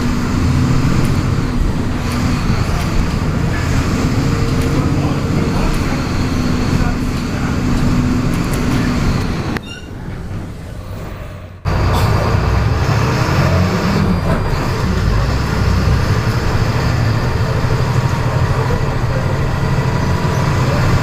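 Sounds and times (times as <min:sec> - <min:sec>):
bus diesel engine under load: 0:00.0 - 0:21.0.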